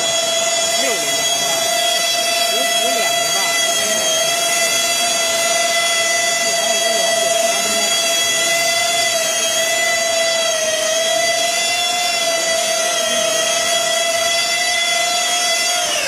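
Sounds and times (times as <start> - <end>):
model jet fans whining: 0.0 - 16.0.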